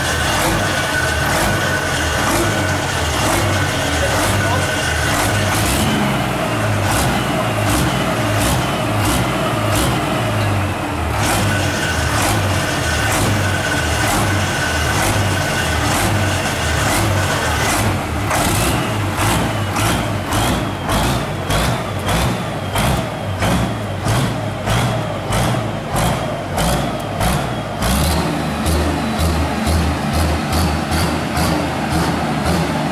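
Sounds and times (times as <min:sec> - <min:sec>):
tractor engine revving: 0:00.0 - 0:32.9.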